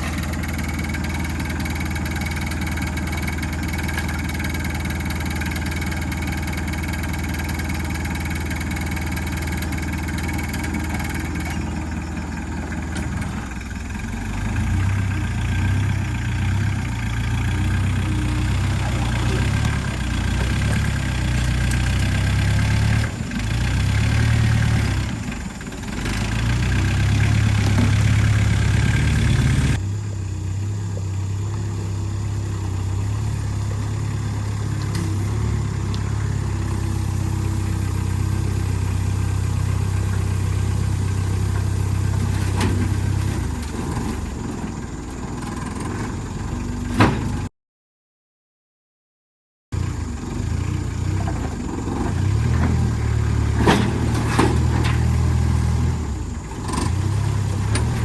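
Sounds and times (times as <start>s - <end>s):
vehicle engine running: 0.0s - 47.5s, 49.8s - 58.0s.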